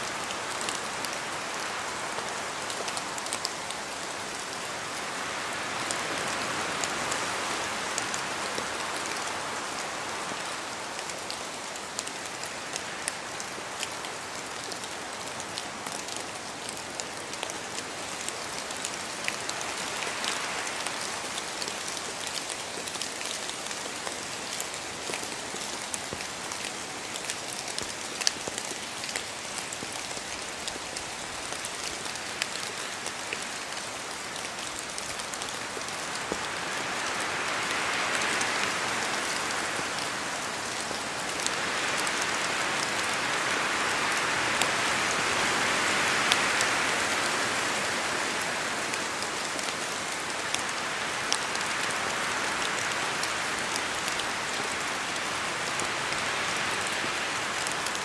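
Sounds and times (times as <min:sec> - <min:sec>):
rain falling on trees: 0:00.0 - 0:58.0
wind gusts through canopy: 0:00.0 - 0:58.0.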